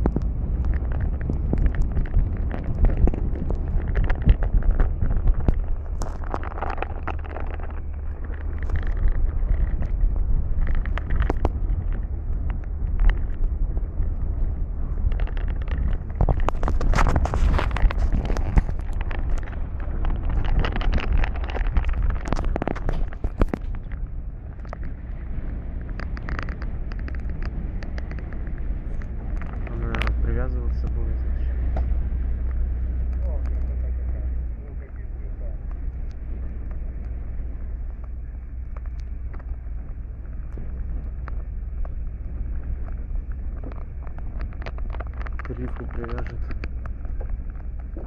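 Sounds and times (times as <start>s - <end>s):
boat engine low rumble: 0.0s - 48.0s
small knocks and clicks: 0.0s - 48.0s.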